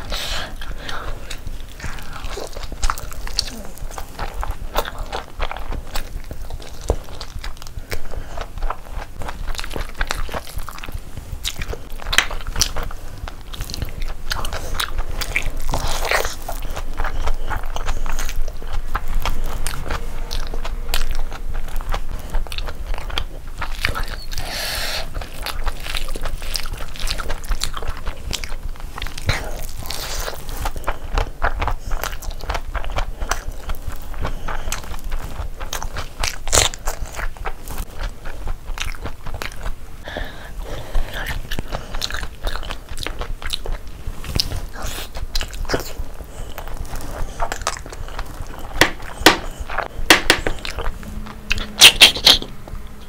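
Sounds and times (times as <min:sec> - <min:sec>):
close chewing with wet smacking: 0:00.0 - 0:53.0.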